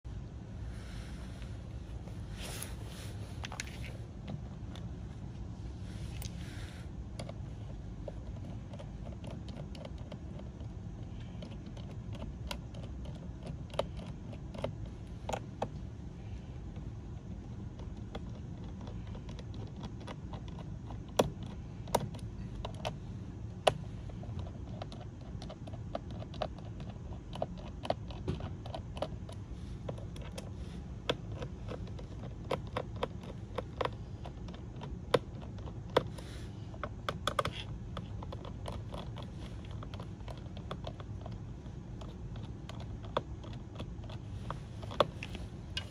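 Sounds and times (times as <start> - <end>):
steady low background rumble: 0.0 - 45.9.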